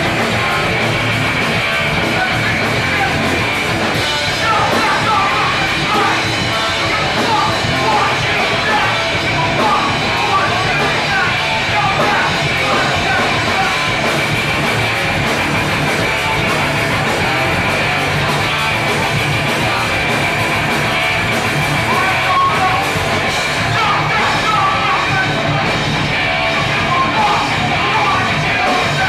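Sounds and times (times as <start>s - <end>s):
person singing and shouting: 0.0s - 21.0s, 21.7s - 29.0s
bass guitar: 0.0s - 29.0s
distorted electric guitar: 0.0s - 29.0s
drums: 0.0s - 29.0s.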